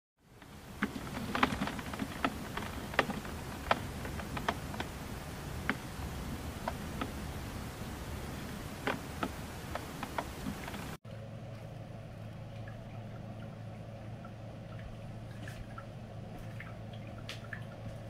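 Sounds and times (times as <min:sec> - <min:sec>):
steady low hum: 0:00.2 - 0:18.0.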